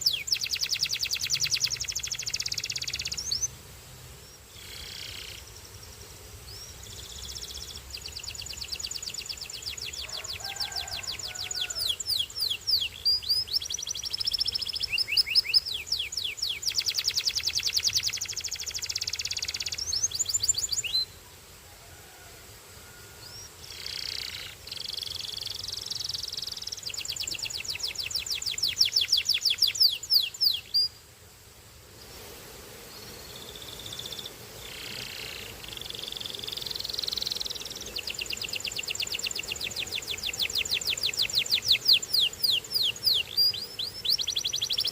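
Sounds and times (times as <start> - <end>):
canary singing trills: 0.0 - 3.5, 6.5 - 21.2, 23.2 - 31.0, 33.4 - 44.9.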